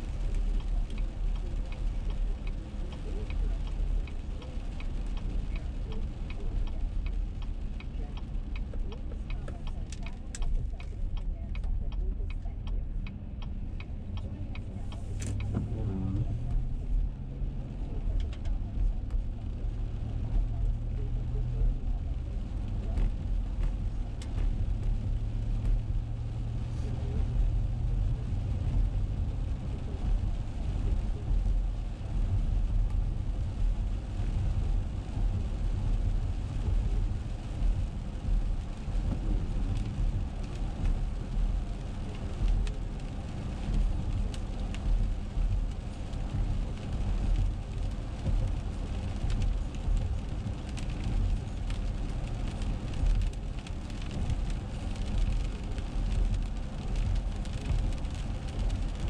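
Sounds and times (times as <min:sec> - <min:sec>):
car engine and tyre rumble: 0:00.0 - 0:59.0
raindrops ticking on windshield: 0:00.0 - 0:59.0.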